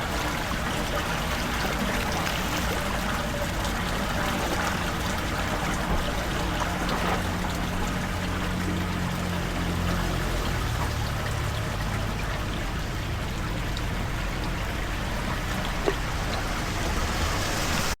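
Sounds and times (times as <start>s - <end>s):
water pouring into a drain: 0.0s - 18.0s.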